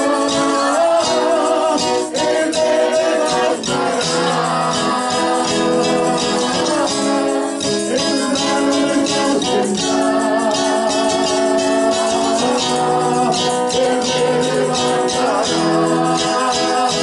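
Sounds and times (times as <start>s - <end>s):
acoustic guitar strumming: 0.0s - 17.0s
man singing: 0.0s - 17.0s.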